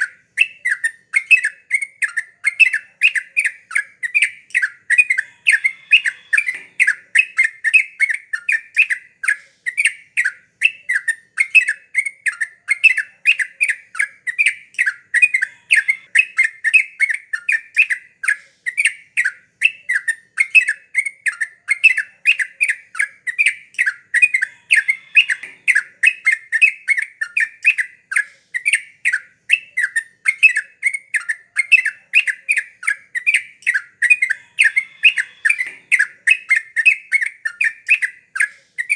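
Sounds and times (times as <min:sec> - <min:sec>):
bird singing bubbly chattering notes: 0:00.0 - 0:38.9.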